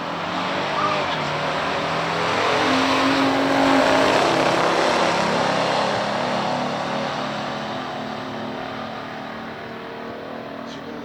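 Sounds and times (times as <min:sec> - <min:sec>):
cars racing at full throttle: 0:00.0 - 0:11.0.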